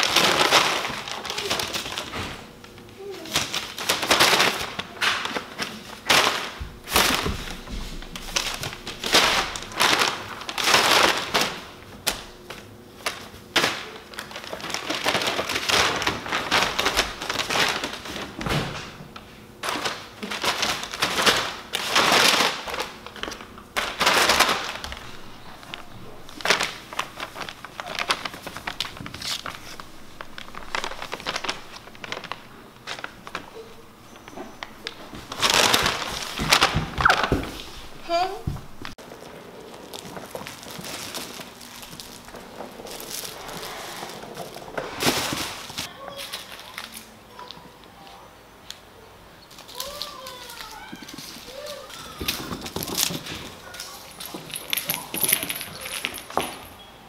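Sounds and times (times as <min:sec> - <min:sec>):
paper crinkling and rustling: 0:00.0 - 0:48.1, 0:49.5 - 0:56.5.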